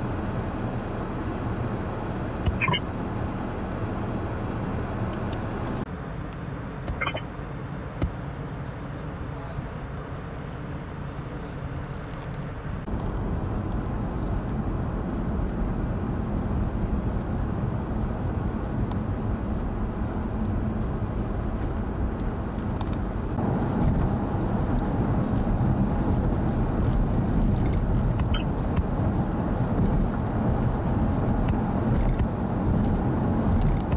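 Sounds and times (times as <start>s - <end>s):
vehicle driving rumble: 0.0s - 33.9s.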